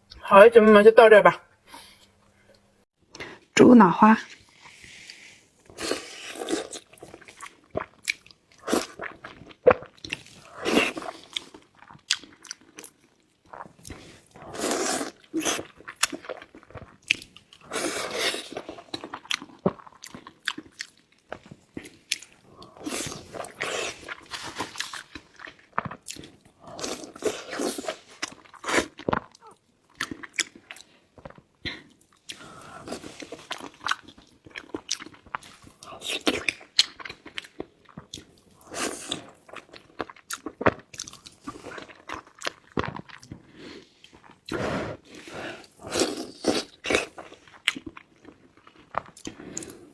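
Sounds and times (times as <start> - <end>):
person chewing and crunching: 4.4 - 49.9.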